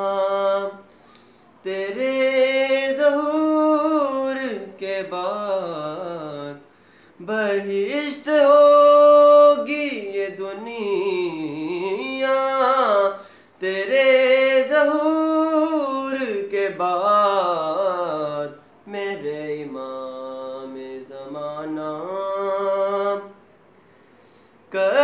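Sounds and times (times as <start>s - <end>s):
man singing unaccompanied: 0.0s - 23.5s, 24.7s - 25.0s.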